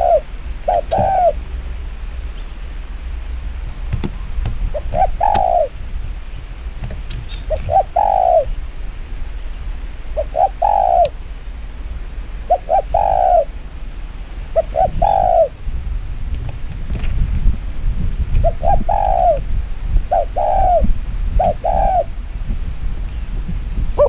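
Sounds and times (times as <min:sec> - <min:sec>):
dove cooing: 0:00.0 - 0:15.6, 0:18.4 - 0:24.0.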